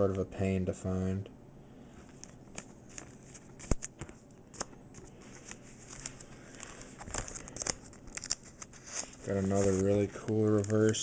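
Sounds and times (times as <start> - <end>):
plastic sleeves rustling: 2.0 - 11.0.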